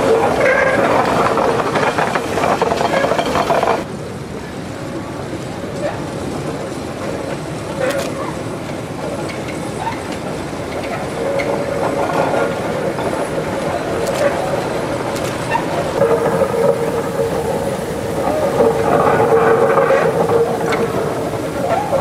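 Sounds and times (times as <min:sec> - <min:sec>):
steam locomotive rumble and rattle: 0:00.0 - 0:22.0.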